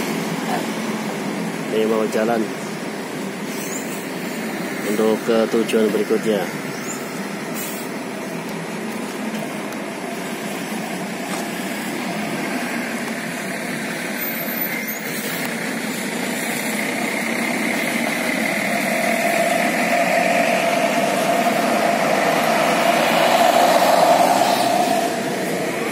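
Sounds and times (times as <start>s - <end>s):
bus diesel engine driving past: 0.0s - 25.9s.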